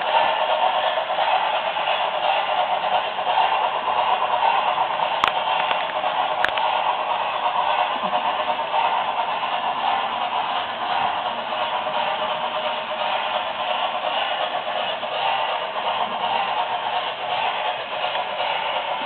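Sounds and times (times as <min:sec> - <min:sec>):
model locomotive steam hiss: 0:00.0 - 0:19.0.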